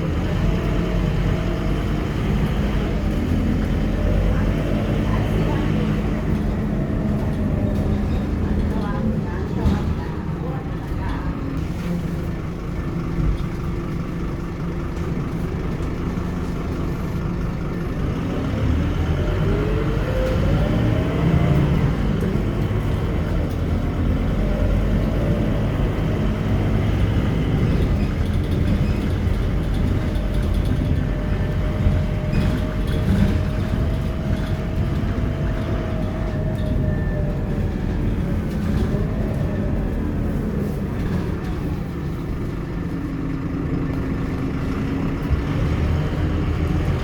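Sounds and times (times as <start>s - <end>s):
bus diesel engine: 0.0s - 47.0s.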